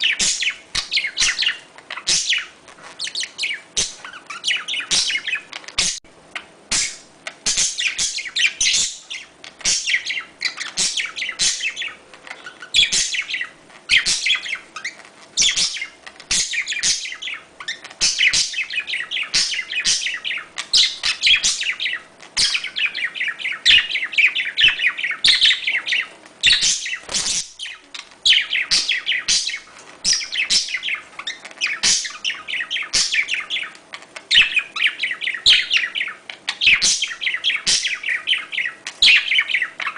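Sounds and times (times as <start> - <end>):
budgerigars warbling and chattering: 0.0 - 39.9.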